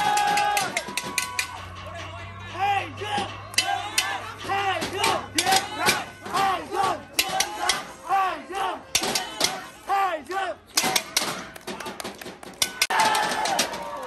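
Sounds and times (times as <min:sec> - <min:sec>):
supporters chanting and shouting: 0:00.0 - 0:14.0.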